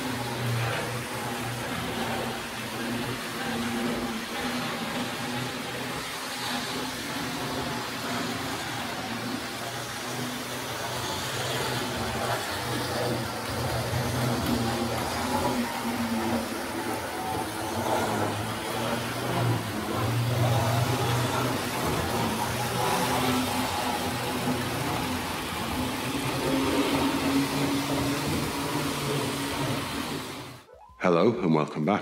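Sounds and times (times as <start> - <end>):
electric motor hum: 0.0 - 30.7
model trains running: 0.0 - 30.7.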